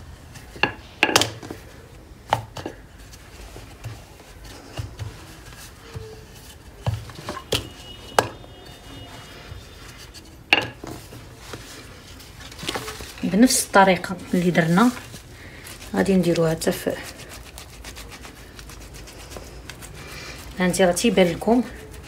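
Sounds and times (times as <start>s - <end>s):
rolling pin rolling dough: 0.0s - 22.0s.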